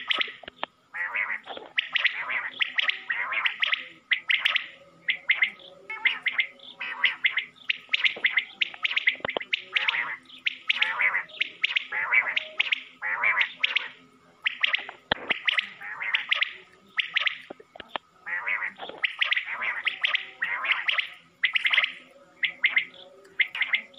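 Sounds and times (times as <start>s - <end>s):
quail calling sharp chirps: 0.0s - 23.9s.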